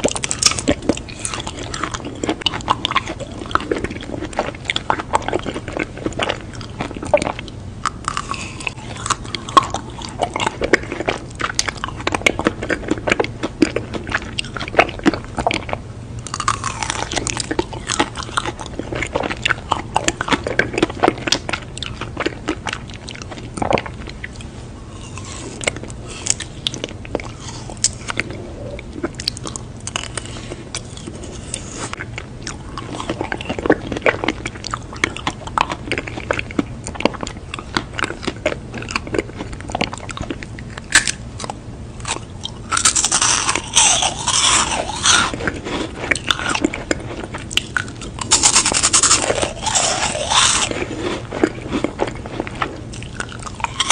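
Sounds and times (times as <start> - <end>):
chewing crackles: 0.0 - 53.9
crunchy biting of ice cream bar: 0.0 - 53.9.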